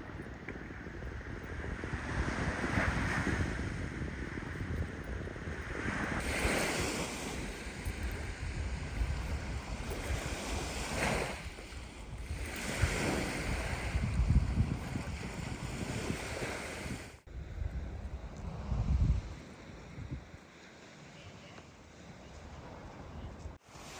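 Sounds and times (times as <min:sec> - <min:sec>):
wind buffeting microphone: 0:00.0 - 0:20.5.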